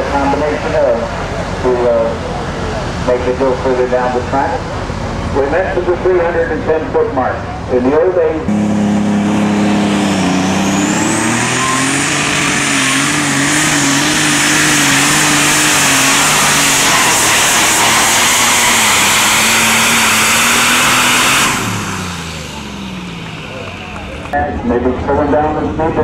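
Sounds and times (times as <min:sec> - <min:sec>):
tractor engine at full power: 0:00.0 - 0:26.0
high whine: 0:01.6 - 0:26.0.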